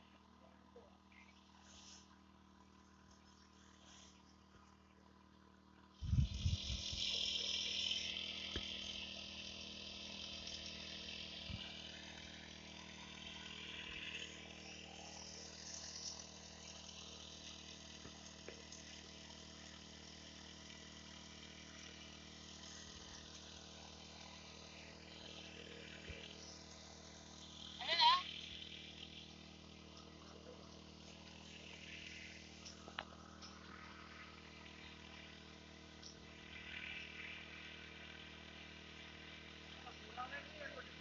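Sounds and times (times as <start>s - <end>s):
sprayer pump engine hum: 0.0s - 41.0s.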